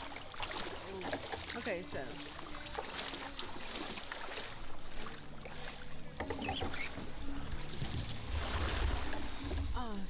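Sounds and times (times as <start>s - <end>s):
water lapping around boat: 0.0s - 10.0s.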